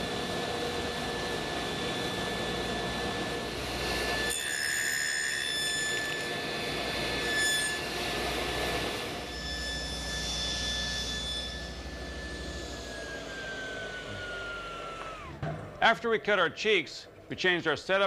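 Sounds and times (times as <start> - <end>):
table saw whine: 0.0 - 15.4.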